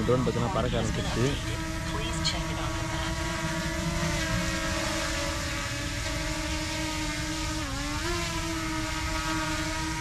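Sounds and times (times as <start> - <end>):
drone propellers whining: 0.0 - 10.0.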